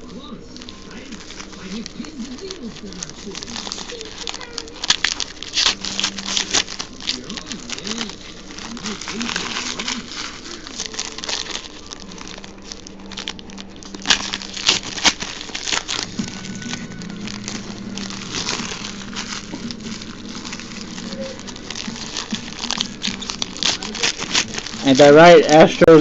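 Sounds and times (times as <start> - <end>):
foil wrapper crinkling and tearing: 0.0 - 26.0.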